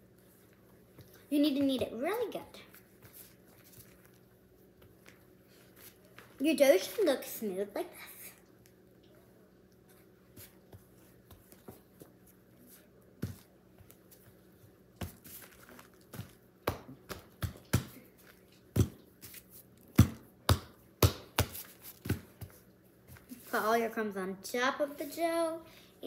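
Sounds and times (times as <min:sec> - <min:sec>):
hands kneading and patting dough: 0:00.0 - 0:24.0.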